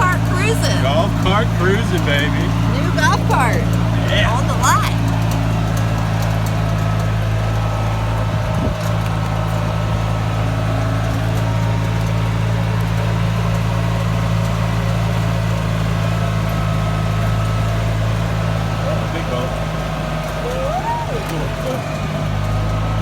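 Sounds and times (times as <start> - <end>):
golf cart engine droning: 0.0 - 23.0.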